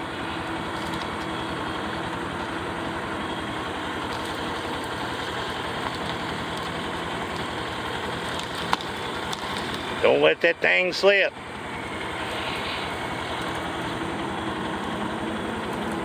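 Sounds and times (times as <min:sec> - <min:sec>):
engine running with low pulsing: 0:00.0 - 0:16.0.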